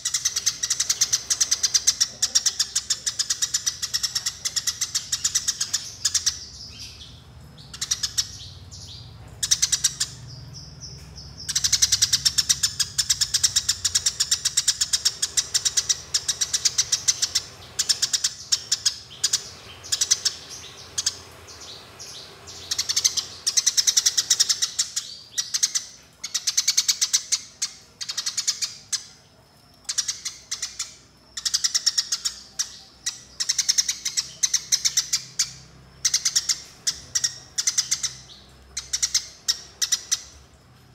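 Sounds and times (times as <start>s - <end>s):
sparrow chirping: 0.0s - 29.2s, 29.8s - 40.5s.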